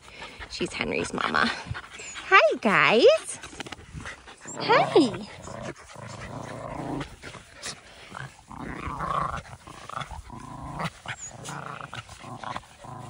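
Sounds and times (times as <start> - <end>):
dogs play-growling: 0.0 - 13.0.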